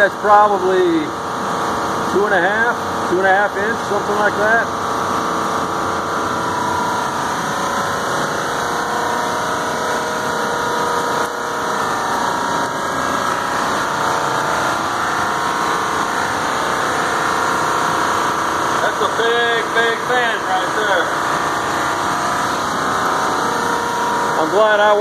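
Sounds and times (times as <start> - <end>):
air conditioning machine drone: 0.0 - 25.0.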